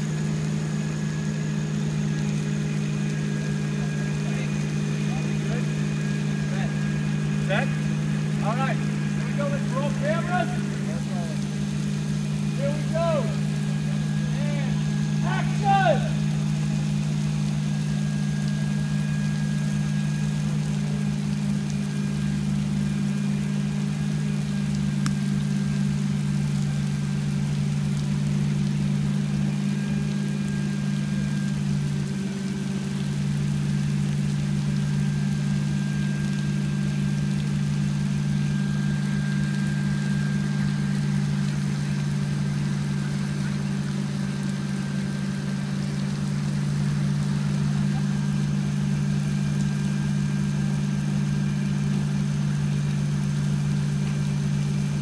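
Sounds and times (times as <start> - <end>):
artificial rain hiss: 0.0 - 55.0
motor droning: 0.0 - 55.0.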